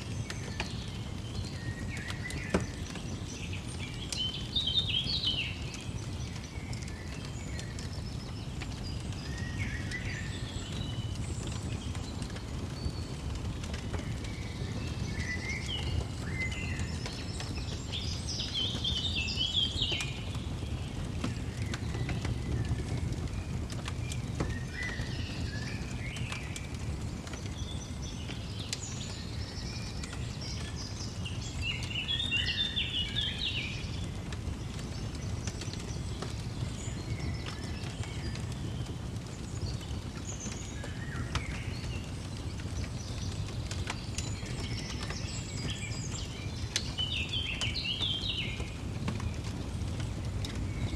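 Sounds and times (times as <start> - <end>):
songbirds twittering: 0.0 - 50.9
fireplace crackling: 5.4 - 18.9, 19.8 - 50.9.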